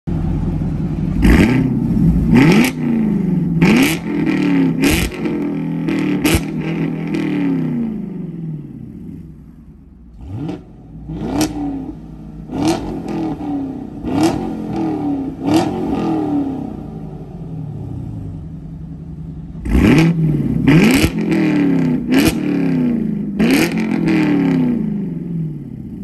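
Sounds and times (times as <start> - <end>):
car engine revving: 0.1 - 26.0.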